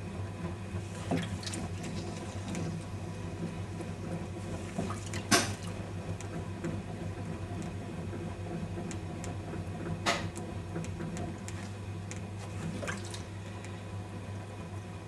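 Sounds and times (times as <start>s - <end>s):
potter's wheel humming: 0.0s - 15.0s.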